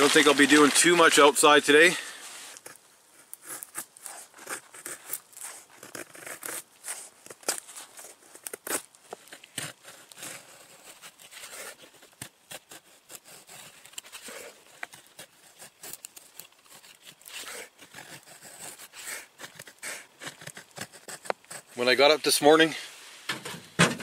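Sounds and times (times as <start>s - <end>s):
knife scraping wood: 2.0s - 22.1s.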